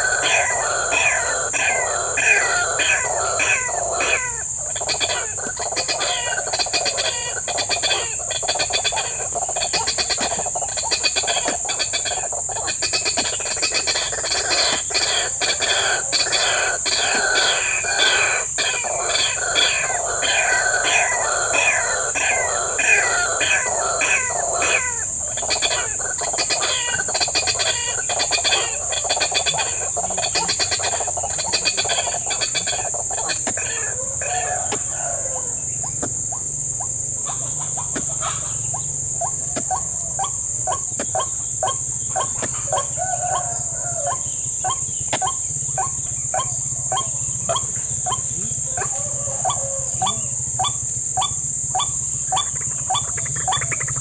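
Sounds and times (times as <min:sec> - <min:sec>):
high-pitched insect drone: 0:00.0 - 0:54.0
waterhens calling: 0:00.0 - 0:54.0.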